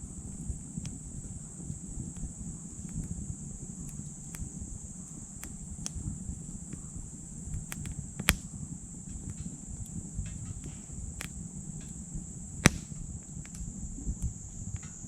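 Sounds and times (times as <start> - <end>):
insects chirring: 0.0 - 15.0
low steady rumble: 0.0 - 15.0
wood fire crackling: 0.0 - 15.0.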